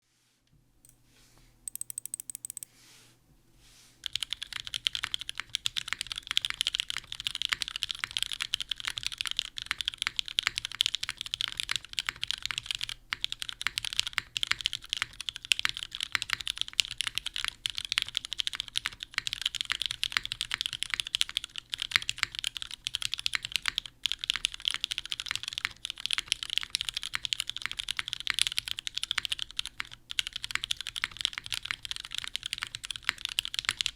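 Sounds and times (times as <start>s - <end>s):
fast typing on mechanical keyboard: 1.7s - 2.7s, 4.0s - 33.9s.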